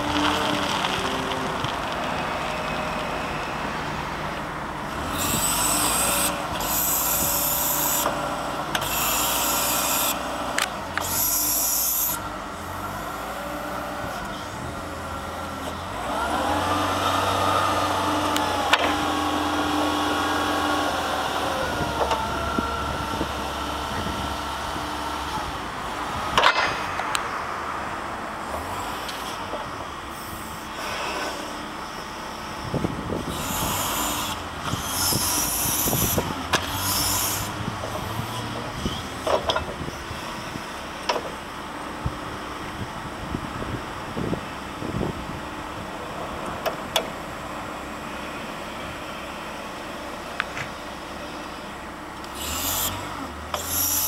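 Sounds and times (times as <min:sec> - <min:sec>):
forklift engine revving with whine: 0:00.0 - 0:54.0.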